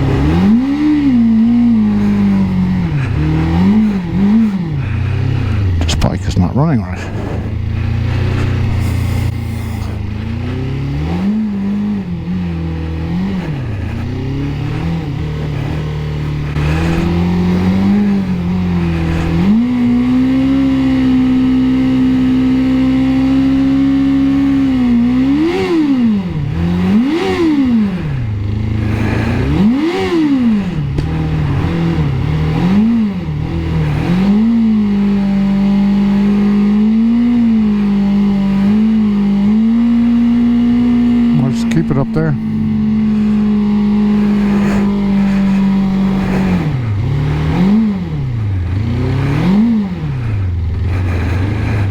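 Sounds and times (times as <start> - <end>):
motorcycle engine revving: 0.0 - 51.9
wind and road noise: 0.0 - 51.9.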